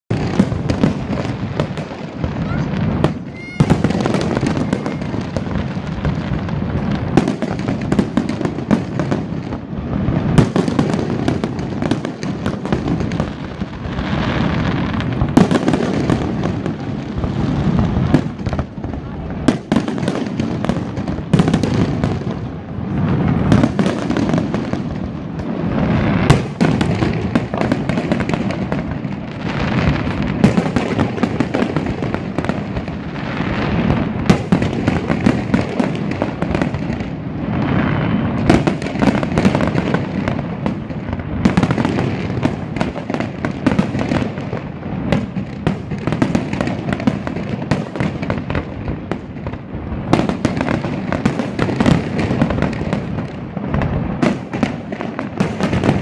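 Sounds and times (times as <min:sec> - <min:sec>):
fireworks booms and crackling: 0:00.0 - 0:56.0.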